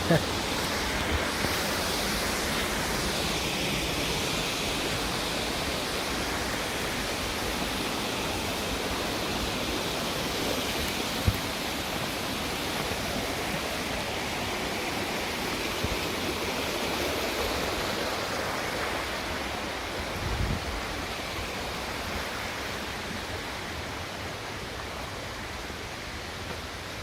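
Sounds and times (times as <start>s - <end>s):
rushing falling water: 0.0s - 27.0s.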